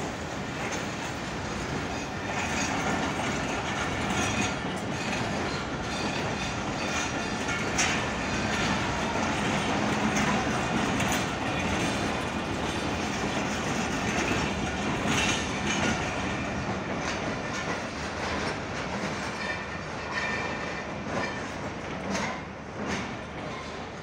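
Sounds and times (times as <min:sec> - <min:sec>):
train wheels clacking over rail joints: 0:00.0 - 0:24.0.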